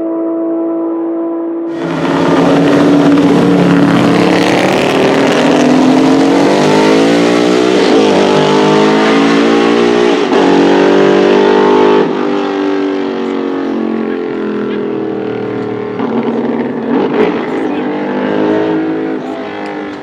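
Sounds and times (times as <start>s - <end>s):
race car engine accelerating: 1.7s - 20.0s.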